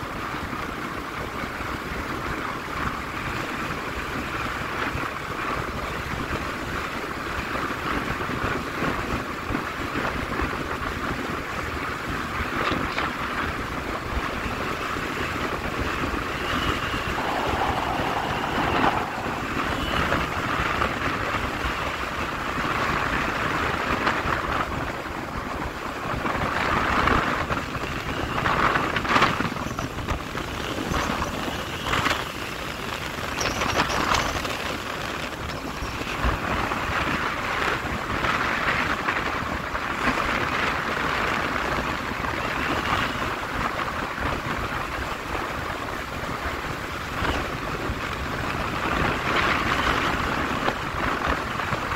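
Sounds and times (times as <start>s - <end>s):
road and engine rumble: 0.0s - 51.9s
wind buffeting microphone: 0.0s - 51.9s.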